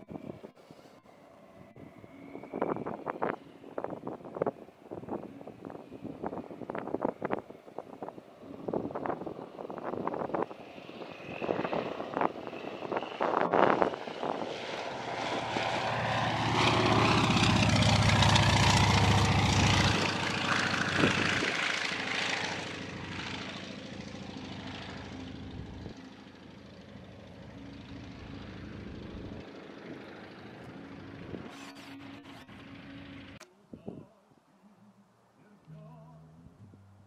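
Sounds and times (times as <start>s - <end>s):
propeller plane flying over: 0.0s - 33.8s.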